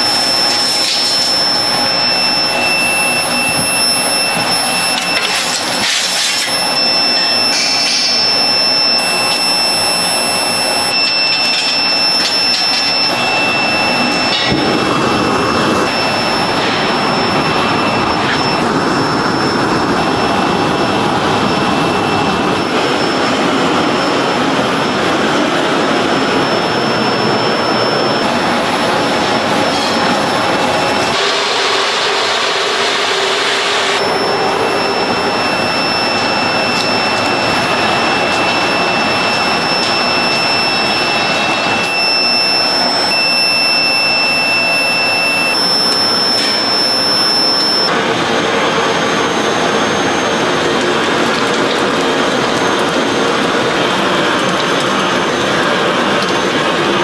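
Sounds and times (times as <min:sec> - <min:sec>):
workshop machinery with high whine: 0:00.0 - 0:57.0.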